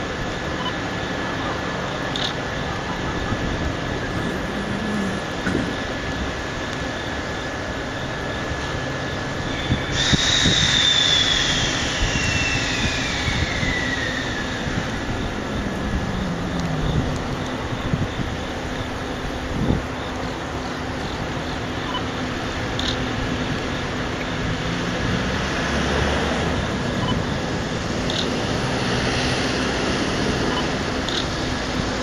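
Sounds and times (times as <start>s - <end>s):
freight train rumbling on rails: 0.0s - 32.0s
high whine falling in pitch: 0.0s - 32.0s.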